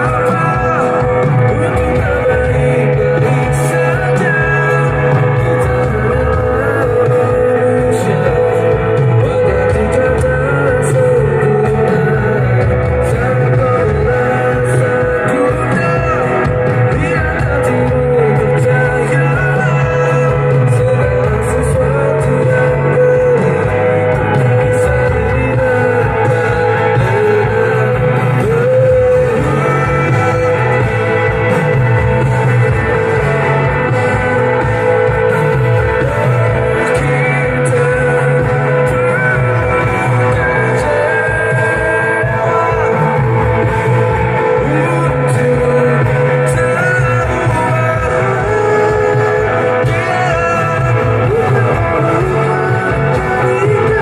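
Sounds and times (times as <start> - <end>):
live band through loudspeakers: 0.0 - 54.0
person singing: 0.0 - 54.0.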